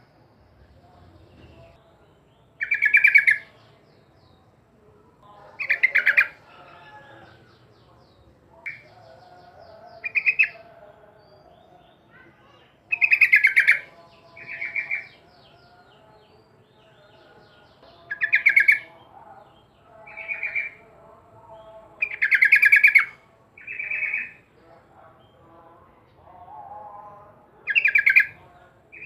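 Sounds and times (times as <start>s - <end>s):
faint chirps of other birds: 0.0s - 29.0s.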